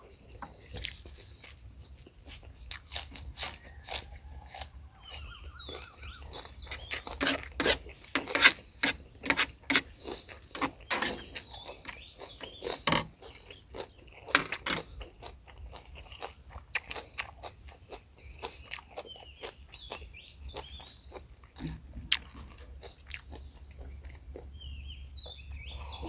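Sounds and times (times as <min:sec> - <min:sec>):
crunching and chewing: 0:00.0 - 0:26.0
insects chirring: 0:00.0 - 0:26.0.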